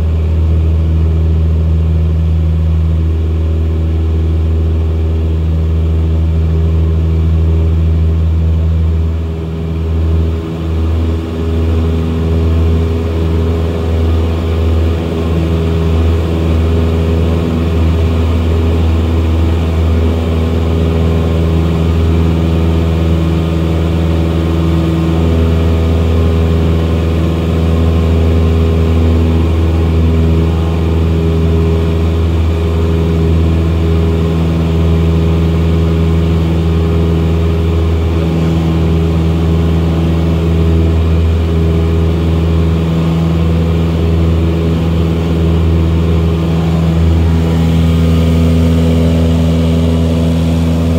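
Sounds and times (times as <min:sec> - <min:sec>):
airplane engine droning in cockpit: 0:00.0 - 0:50.9.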